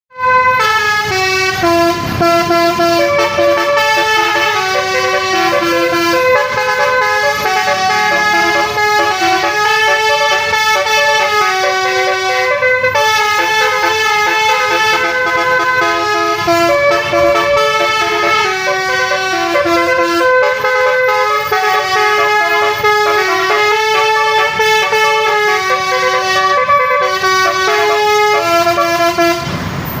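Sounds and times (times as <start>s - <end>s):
musical air horn melody: 0.1s - 29.6s.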